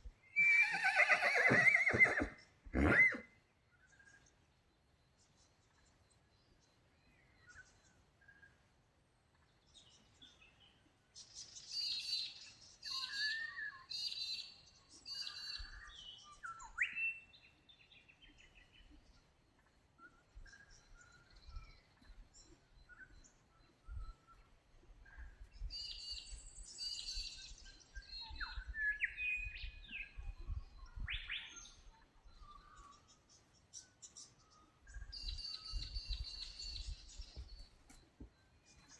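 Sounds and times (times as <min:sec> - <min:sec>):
birds chirping and calling: 0:00.3 - 0:03.2, 0:09.4 - 0:38.9.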